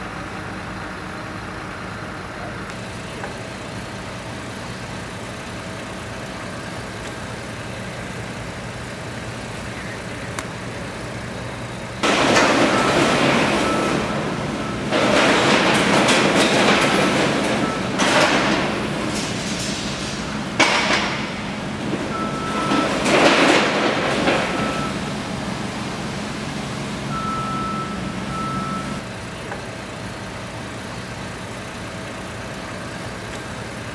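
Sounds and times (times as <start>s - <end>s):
road vehicles rumbling past: 0.0s - 33.9s.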